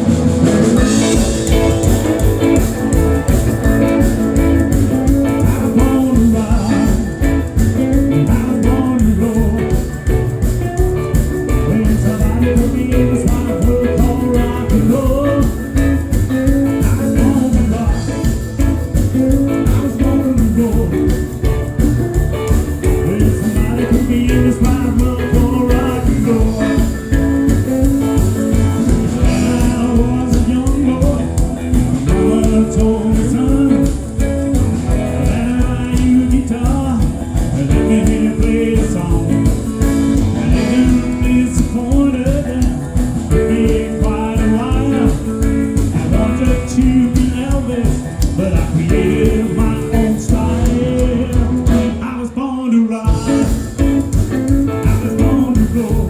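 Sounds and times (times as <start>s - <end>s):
live rock band playing: 0.0s - 52.4s, 53.1s - 56.0s
person singing: 0.0s - 56.0s.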